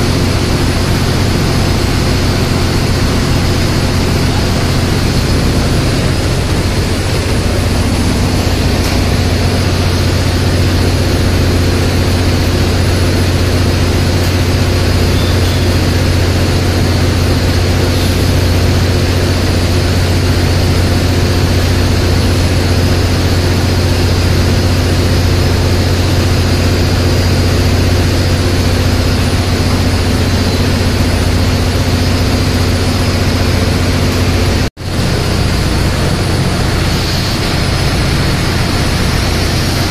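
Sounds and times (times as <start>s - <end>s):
engine-room machinery drone: 0.0s - 39.9s.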